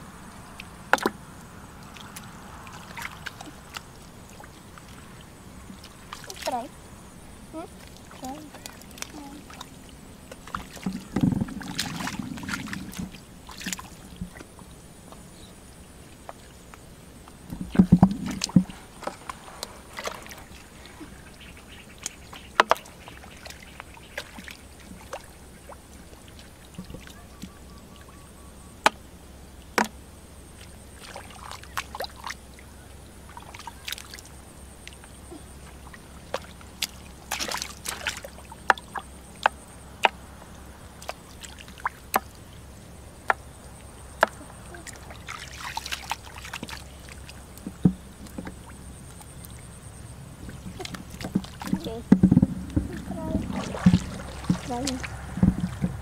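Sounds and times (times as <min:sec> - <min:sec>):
splashing in muddy water: 0:00.0 - 0:06.8, 0:07.4 - 0:28.1, 0:28.8 - 0:56.0
squelching in wet mud: 0:00.4 - 0:06.8, 0:07.4 - 0:27.6, 0:29.6 - 0:56.0.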